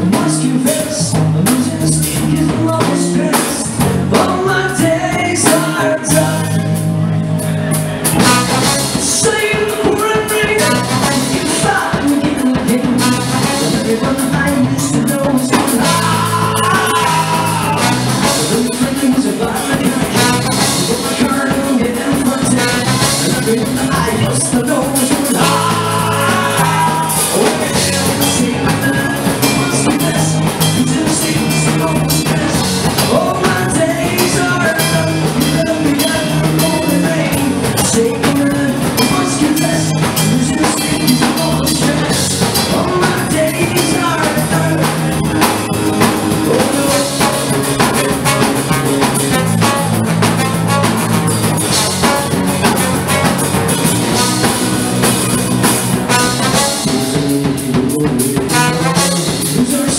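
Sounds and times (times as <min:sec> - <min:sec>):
man singing: 0:00.0 - 0:59.9
ska rock band playing: 0:00.0 - 0:59.9.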